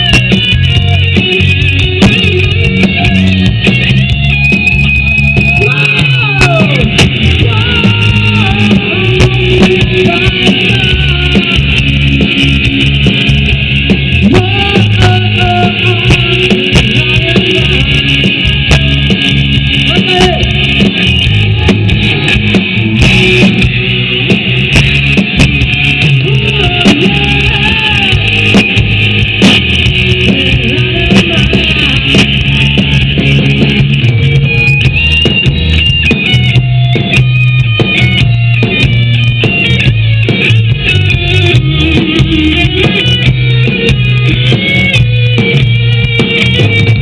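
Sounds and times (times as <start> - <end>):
lead guitar run: 0.0 - 47.0
rock band playing: 0.0 - 47.0.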